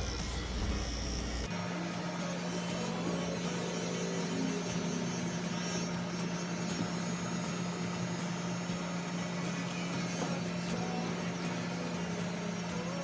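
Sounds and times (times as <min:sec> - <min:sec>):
electric clippers humming: 0:00.0 - 0:13.0.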